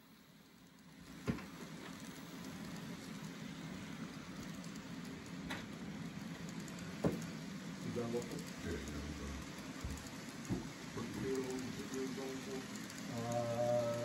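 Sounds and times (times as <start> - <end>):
model train cars rolling: 0.0 - 14.0.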